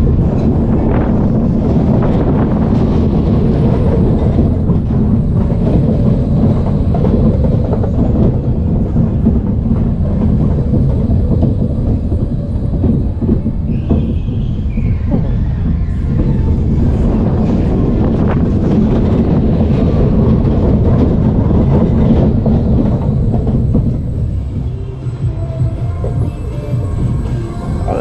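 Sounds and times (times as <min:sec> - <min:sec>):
coaster wheels rumbling on track: 0:00.0 - 0:28.0.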